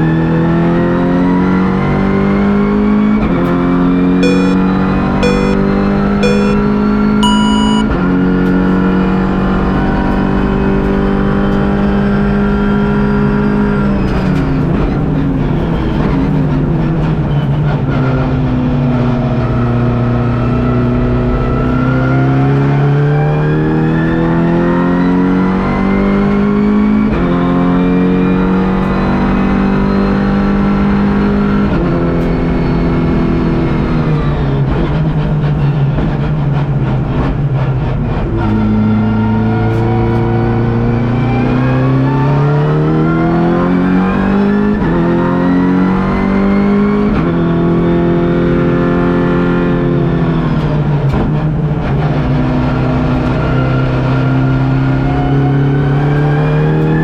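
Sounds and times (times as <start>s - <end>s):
race car engine: 0.0s - 57.0s.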